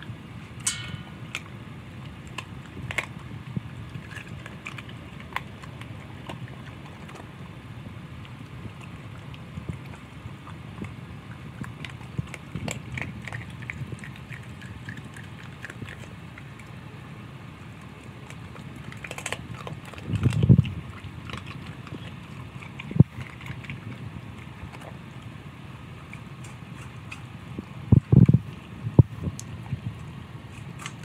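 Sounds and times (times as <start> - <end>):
dog chewing and lapping: 0.0 - 31.0.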